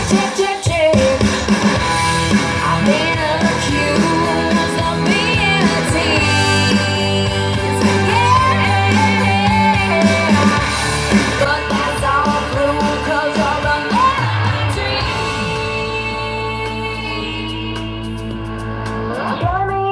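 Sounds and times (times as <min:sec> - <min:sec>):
song through speaker: 0:00.0 - 0:19.9.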